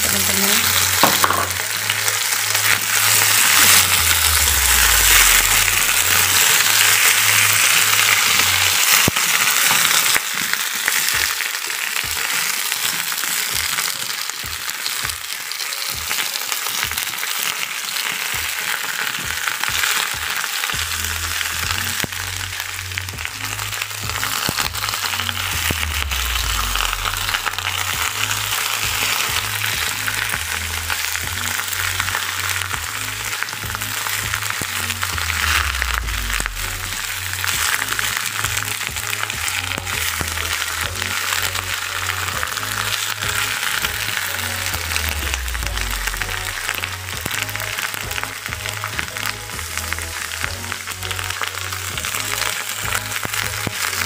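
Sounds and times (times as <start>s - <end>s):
spatula stir-frying in wok: 0.0s - 54.0s
vegetables sizzling in hot oil: 0.0s - 54.0s.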